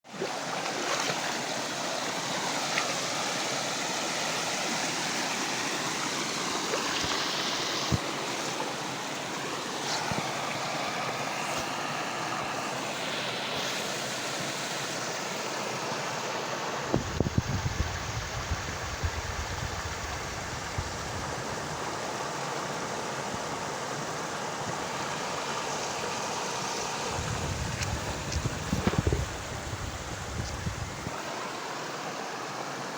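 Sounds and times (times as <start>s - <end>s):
water rushing: 0.0s - 32.9s.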